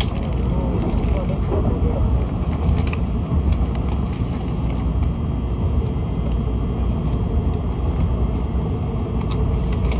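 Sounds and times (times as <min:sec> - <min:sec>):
train cabin deep rumble: 0:00.0 - 0:09.9.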